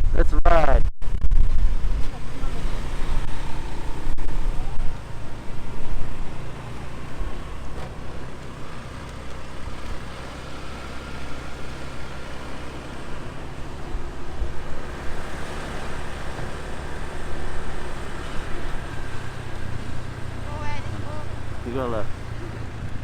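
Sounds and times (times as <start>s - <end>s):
road and wind noise: 0.0s - 23.0s
motorcycle engine running: 1.2s - 23.0s.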